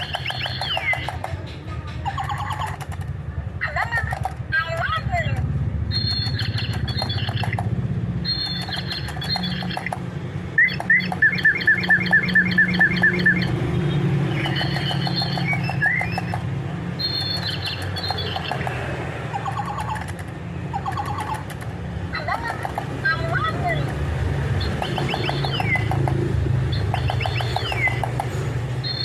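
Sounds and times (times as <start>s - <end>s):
lovebirds chirping: 0.0s - 3.0s, 5.9s - 21.6s, 22.2s - 29.0s.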